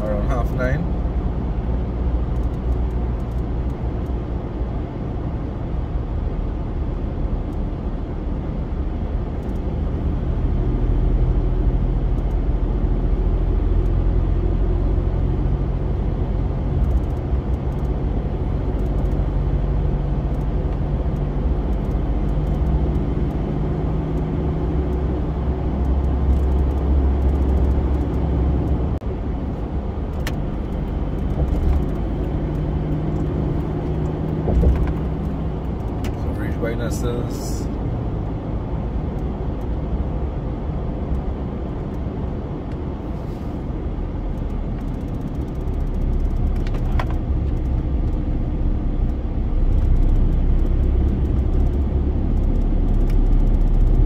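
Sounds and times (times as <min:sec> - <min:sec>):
car engine hum: 0:00.0 - 0:54.0
tyre road noise: 0:00.0 - 0:54.0.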